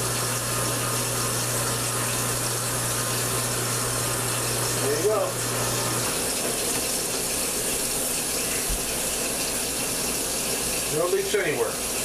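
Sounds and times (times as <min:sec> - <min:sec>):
faucet water running into sink: 0:00.0 - 0:12.0.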